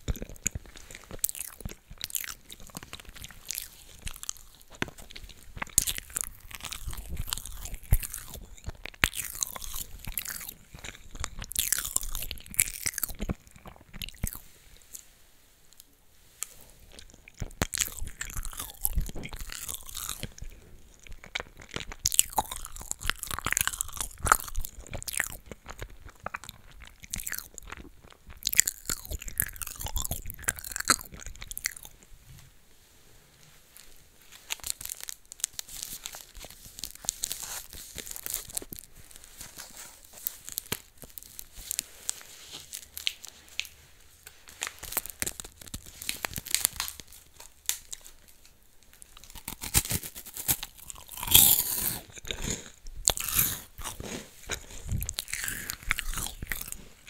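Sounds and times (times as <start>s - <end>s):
crunchy chewing of snacks: 0.0s - 15.1s, 15.7s - 32.2s, 33.7s - 57.0s.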